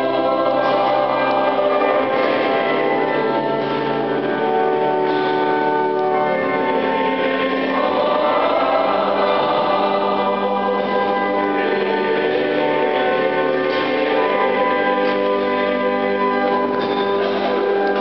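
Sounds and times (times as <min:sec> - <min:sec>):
choir singing a hymn: 0:00.0 - 0:18.0
organ: 0:00.0 - 0:18.0.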